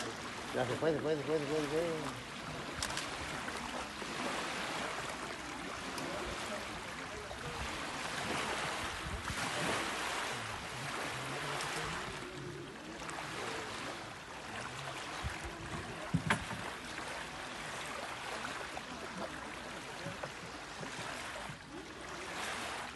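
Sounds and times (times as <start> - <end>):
water lapping at shore: 0.0 - 22.9.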